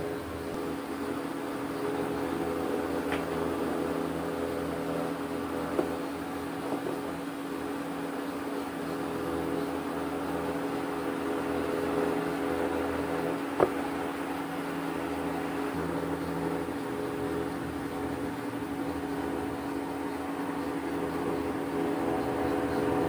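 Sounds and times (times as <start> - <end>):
small motor humming: 0.0 - 23.0.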